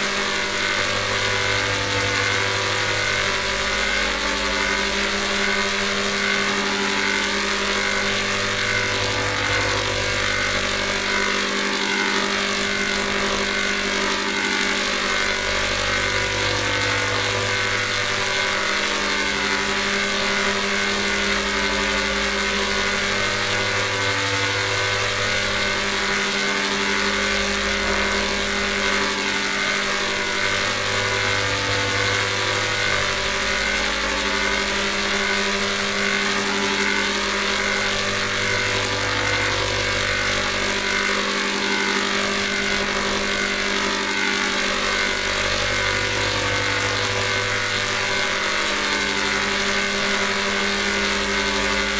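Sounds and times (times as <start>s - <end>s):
distorted electronic drone: 0.0s - 51.9s.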